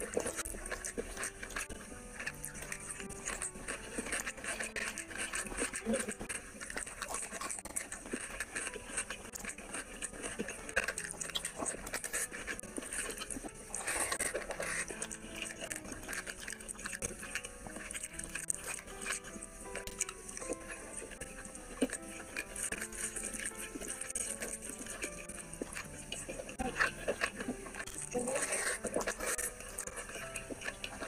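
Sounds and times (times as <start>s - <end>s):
faint background music: 0.0s - 31.0s
wet chewing and lip-smacking: 0.0s - 31.0s.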